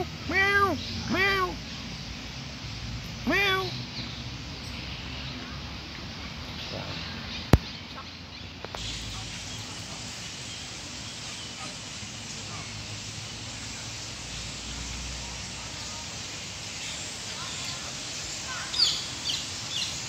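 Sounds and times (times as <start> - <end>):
distant voices: 0.0 - 20.0
steady background noise: 0.0 - 20.0.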